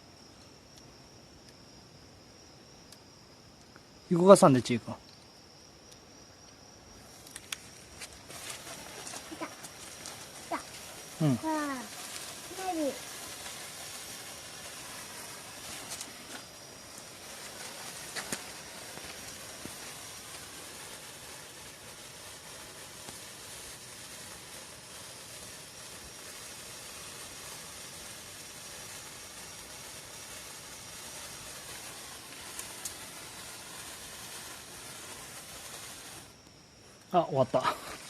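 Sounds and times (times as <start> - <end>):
firework crackles: 0.0 - 38.0
firework hissing: 0.0 - 38.0.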